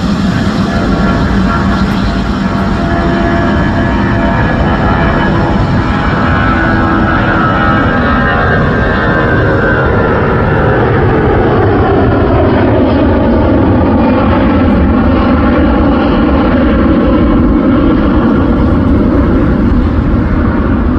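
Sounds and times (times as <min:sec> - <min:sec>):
engine whine falling in pitch: 0:00.0 - 0:20.9
jet engines running: 0:00.0 - 0:20.9.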